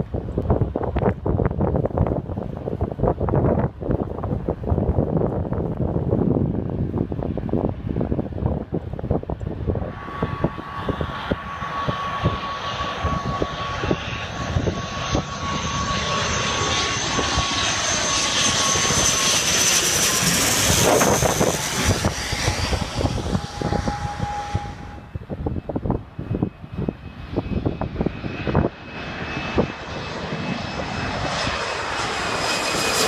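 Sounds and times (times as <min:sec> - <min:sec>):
propeller airliner passing overhead: 0:00.0 - 0:33.0
wind buffeting microphone: 0:00.0 - 0:33.0
high engine whine: 0:03.6 - 0:33.0.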